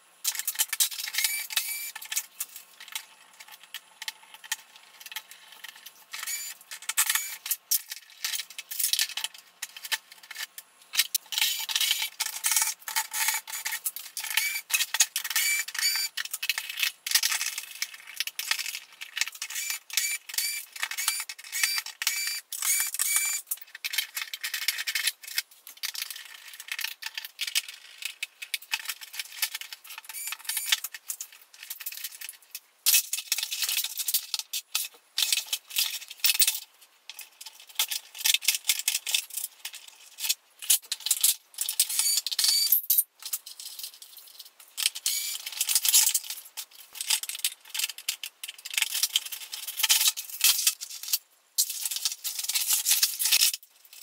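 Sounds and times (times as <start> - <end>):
plastic parts and screws rattling: 0.1 - 54.0.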